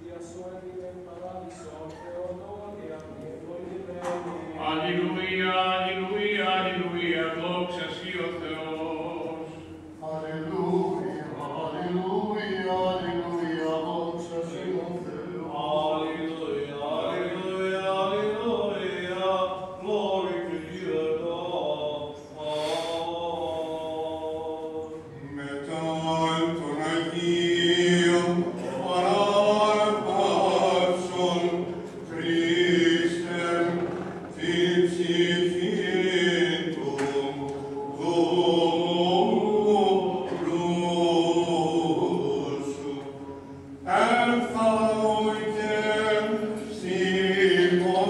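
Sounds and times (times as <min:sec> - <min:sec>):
men chanting hymns: 0:00.0 - 0:48.0.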